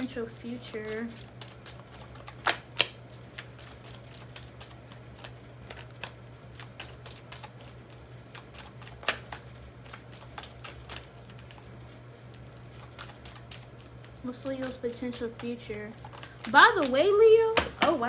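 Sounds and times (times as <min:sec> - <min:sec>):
cards being shuffled: 0:00.0 - 0:18.0
low electrical hum: 0:00.0 - 0:18.0.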